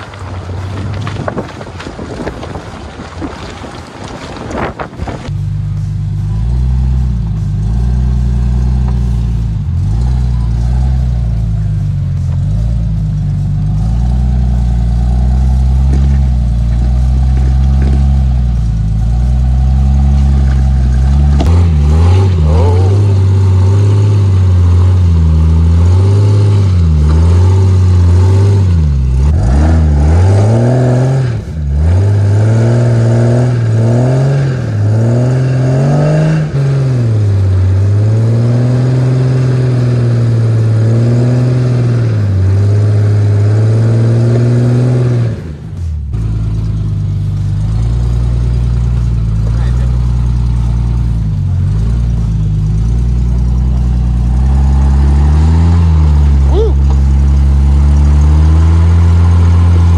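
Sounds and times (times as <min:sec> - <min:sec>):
engine revving under load: 0:04.7 - 0:59.9.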